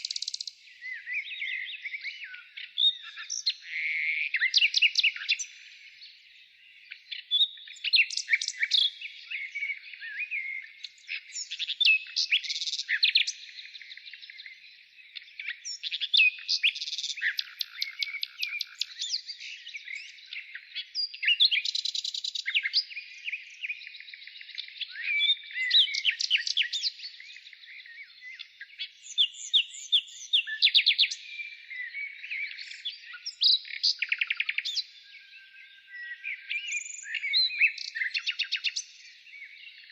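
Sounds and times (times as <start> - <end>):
birds chirping rapidly: 0.0 - 39.9
birds twittering: 0.0 - 39.9.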